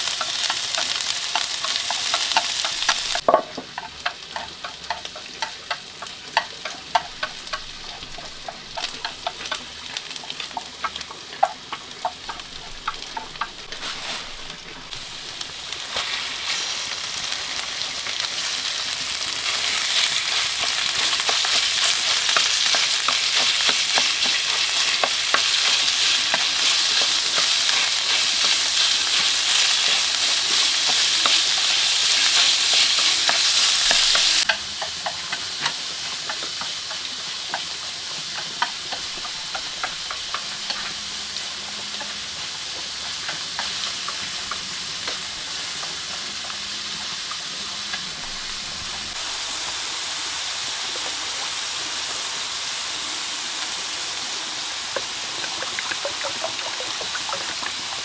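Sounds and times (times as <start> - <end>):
food sizzling and popping: 0.0 - 58.0.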